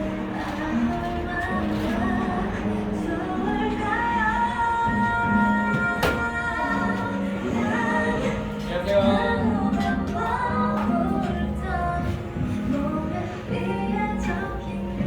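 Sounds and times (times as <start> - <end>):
woman singing over music: 0.0 - 15.0.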